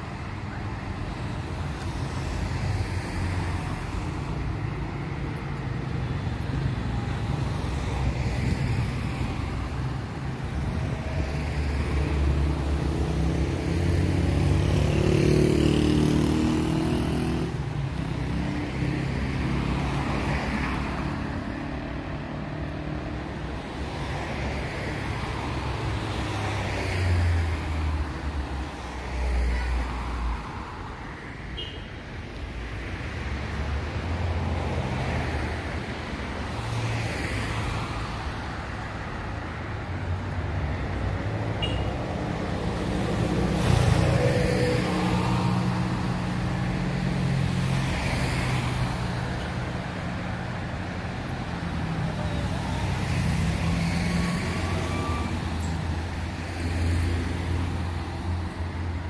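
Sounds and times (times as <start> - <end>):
traffic rumble: 0.0 - 59.0
vehicles driving past: 0.0 - 59.0.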